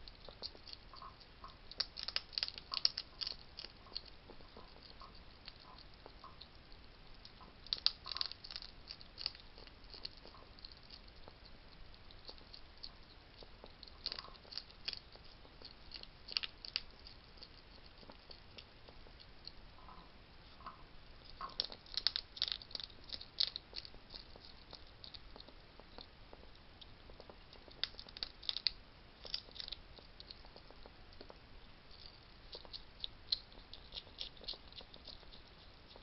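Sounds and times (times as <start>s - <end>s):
hedgehogs crunching food: 0.0s - 36.0s.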